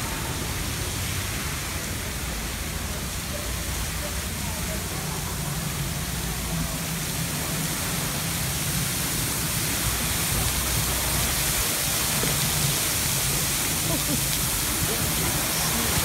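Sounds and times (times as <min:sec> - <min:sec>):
water jet rushing hiss: 0:00.0 - 0:16.0
spray falling on road: 0:00.1 - 0:16.0.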